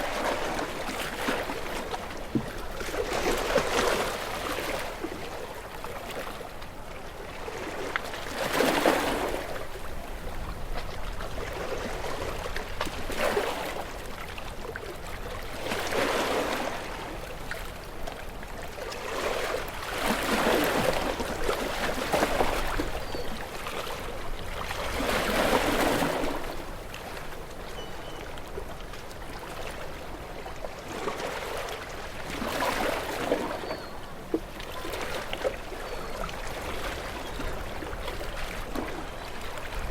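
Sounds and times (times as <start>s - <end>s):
ocean waves breaking: 0.0s - 39.9s
steady wash of water: 0.0s - 39.9s.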